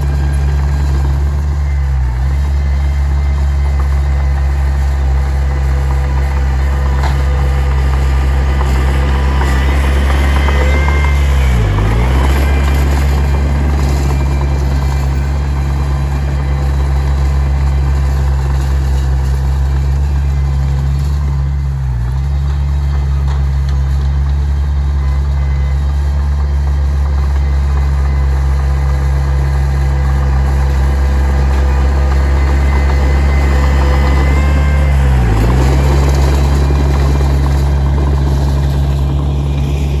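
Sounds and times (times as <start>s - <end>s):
diesel engine running under load: 0.0s - 40.0s.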